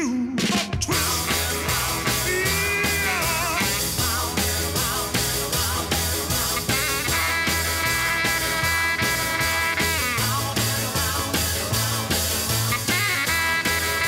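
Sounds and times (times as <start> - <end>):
dance music with steady beat: 0.7 - 14.0.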